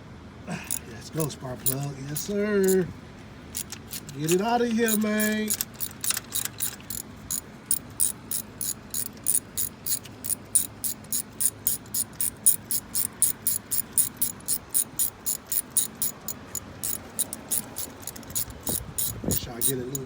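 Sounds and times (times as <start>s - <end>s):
socket ratchet clicking: 0.7s - 0.9s, 1.6s - 2.9s, 3.5s - 20.0s.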